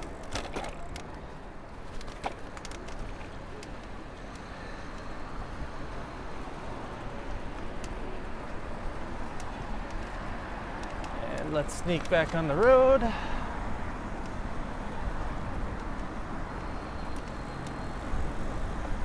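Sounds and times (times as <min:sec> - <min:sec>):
traffic and road noise: 0:00.0 - 0:19.0.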